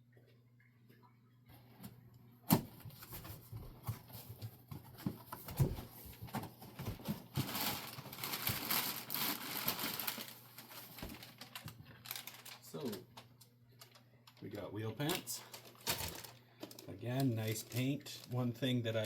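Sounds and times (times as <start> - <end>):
plastic wrap rustling: 2.9 - 19.0.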